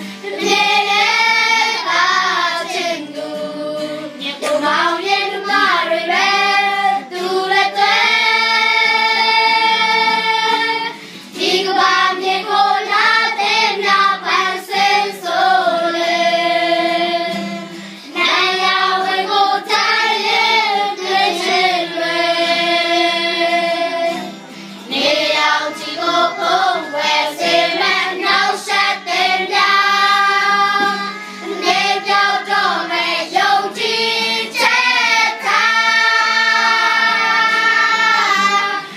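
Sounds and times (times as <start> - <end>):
children singing together: 0.0 - 38.9.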